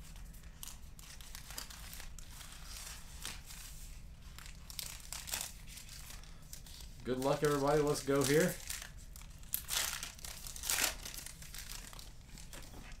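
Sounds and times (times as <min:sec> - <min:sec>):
wrappers crinkling and tearing: 0:00.0 - 0:13.0.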